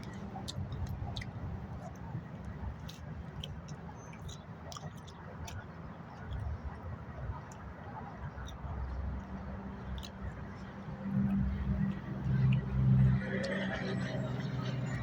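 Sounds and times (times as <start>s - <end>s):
low steady rumble: 0.0s - 4.6s, 5.6s - 15.0s
chewing steak: 0.0s - 15.0s.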